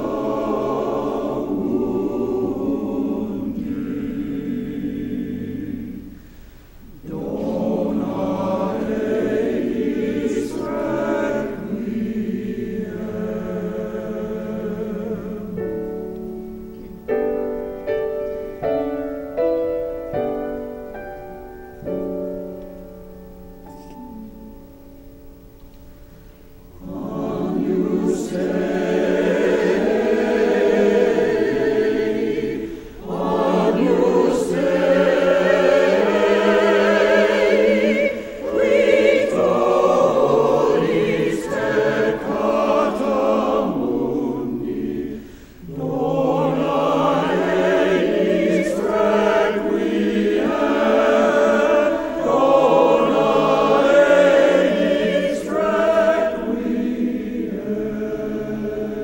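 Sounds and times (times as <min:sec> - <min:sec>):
church choir singing: 0:00.0 - 0:59.0.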